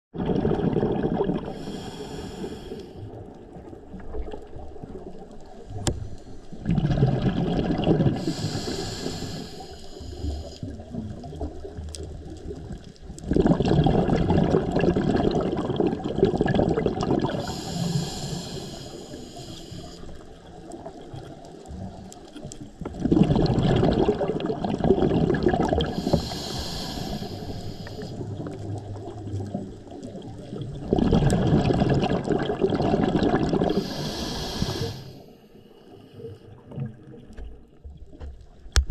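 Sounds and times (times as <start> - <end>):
gurgling exhaled bubbles: 0.1 - 35.1, 36.4 - 38.2.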